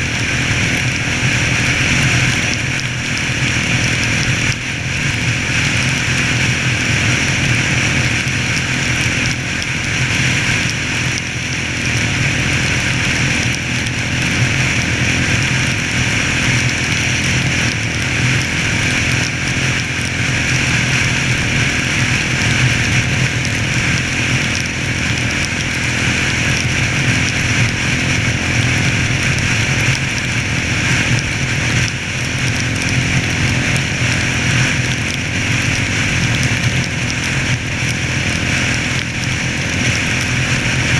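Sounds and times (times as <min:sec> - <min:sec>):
four-stroke engine running: 0:00.0 - 0:40.9.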